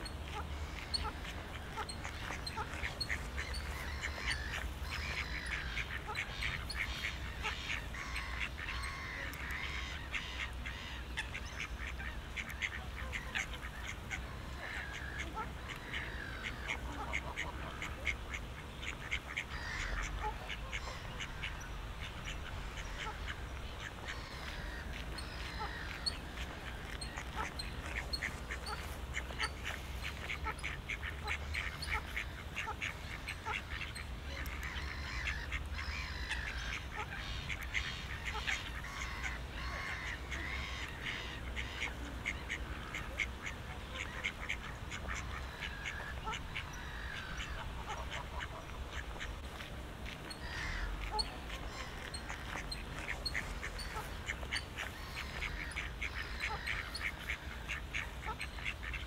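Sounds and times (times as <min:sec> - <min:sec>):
ducks quacking: 0:00.0 - 0:59.0
small birds chirping: 0:00.0 - 0:59.0.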